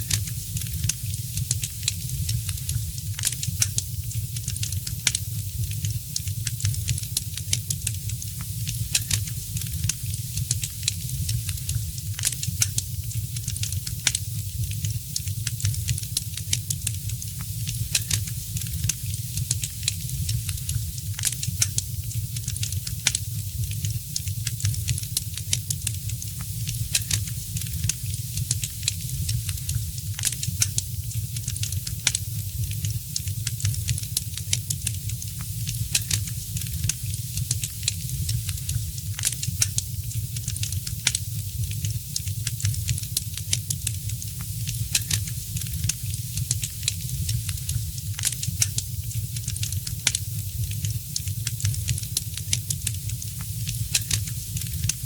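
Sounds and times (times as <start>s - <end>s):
fire crackling and popping: 0.0s - 55.0s
low rumble and hiss of fire: 0.0s - 55.0s.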